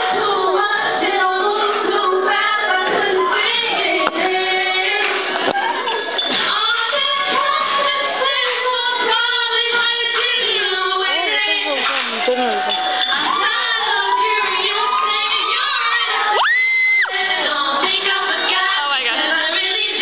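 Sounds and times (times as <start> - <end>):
girls singing together: 0.0 - 12.1, 12.7 - 20.0.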